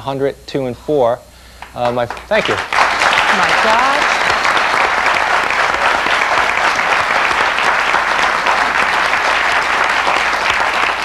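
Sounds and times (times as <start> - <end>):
studio audience applauding: 1.6 - 11.0.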